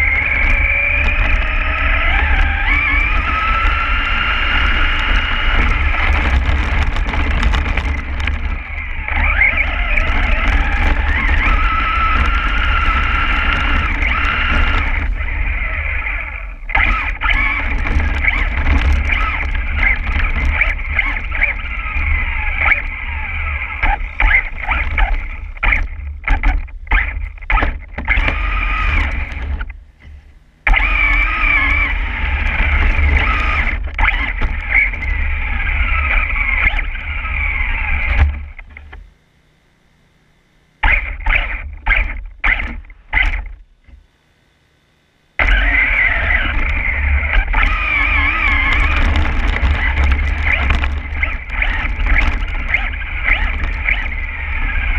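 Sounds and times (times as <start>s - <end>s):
toy truck motor whining: 0.0s - 39.0s, 40.8s - 43.6s, 45.4s - 54.9s
low rumble of ground and wind: 0.0s - 39.2s, 45.4s - 54.9s.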